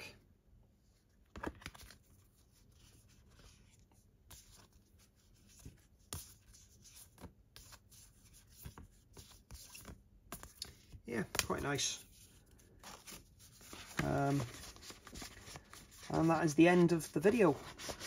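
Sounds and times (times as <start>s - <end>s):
cards rustling and tapping: 1.2s - 2.2s, 2.8s - 18.0s.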